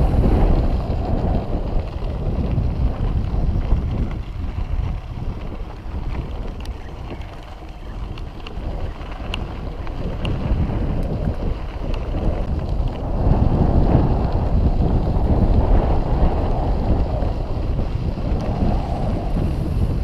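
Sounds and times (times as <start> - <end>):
bike rolling on dirt trail: 0.0 - 20.0
wind buffeting microphone: 0.0 - 20.0.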